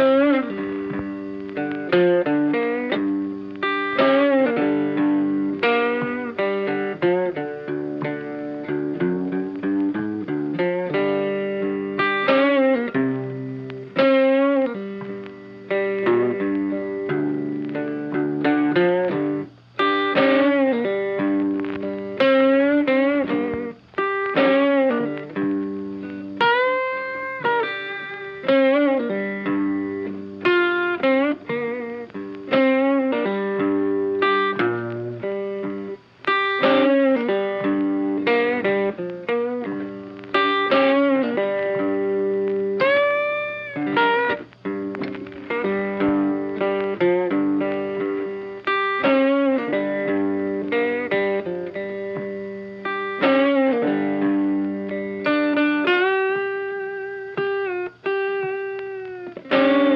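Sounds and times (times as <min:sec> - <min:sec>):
guitar instrumental music: 0:00.0 - 0:59.9.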